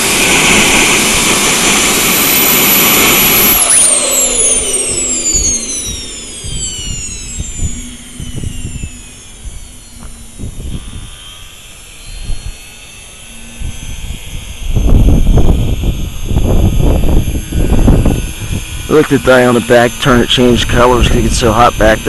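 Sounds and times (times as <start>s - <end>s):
loud low rumbling: 0.0s - 21.5s
turbojet engine whine: 0.0s - 22.0s.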